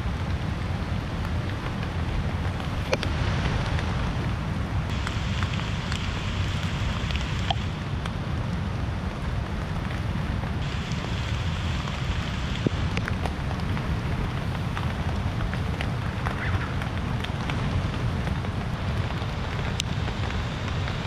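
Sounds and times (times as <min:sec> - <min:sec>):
raindrops ticking on surfaces: 0:00.0 - 0:21.0
steady rain rushing: 0:00.0 - 0:21.0.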